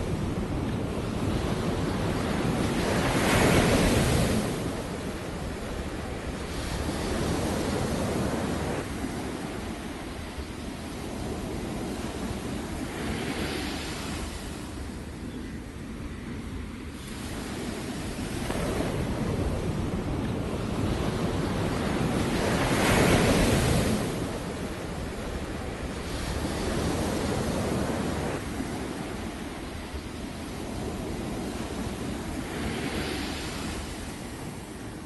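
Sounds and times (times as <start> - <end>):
waves breaking on a beach: 0.0 - 35.0
wind on the microphone: 0.0 - 35.0.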